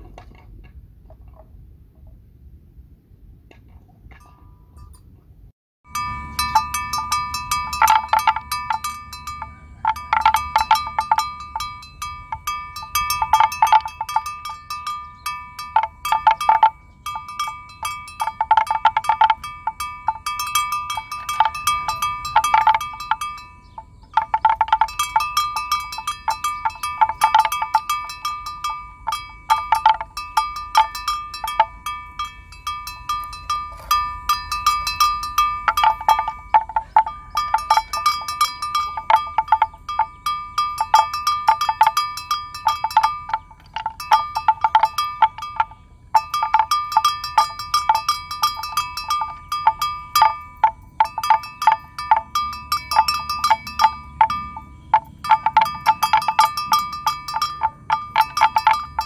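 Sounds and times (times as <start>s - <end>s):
livestock bell clanking: 3.6s - 5.2s, 5.8s - 59.0s.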